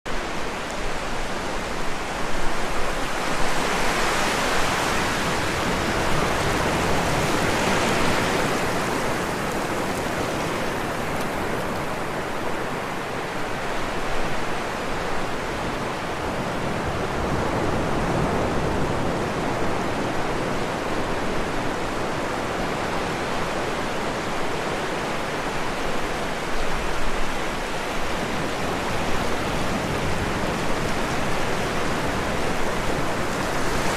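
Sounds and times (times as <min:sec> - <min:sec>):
floodwater rushing: 0:00.1 - 0:33.9.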